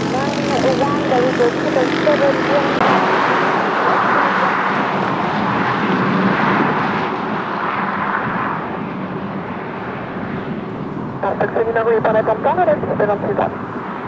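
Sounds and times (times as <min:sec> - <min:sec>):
airliner engine passing: 0:00.0 - 0:14.0.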